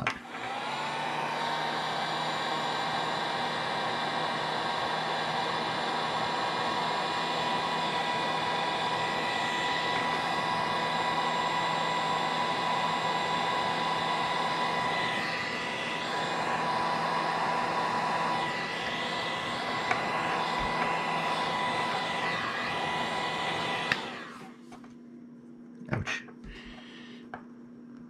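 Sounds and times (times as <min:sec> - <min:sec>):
heat gun blowing air: 0:00.2 - 0:24.6.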